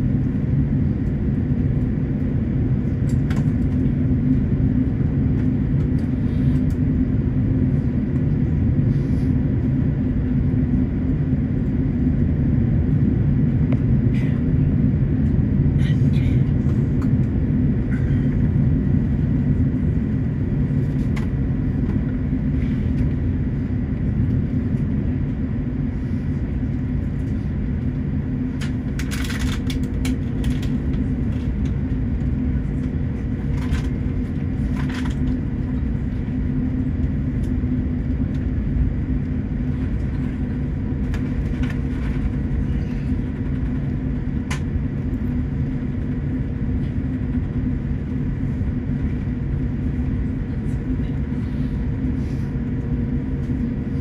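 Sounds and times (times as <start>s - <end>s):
airliner cabin rumble and hum: 0.0s - 54.0s.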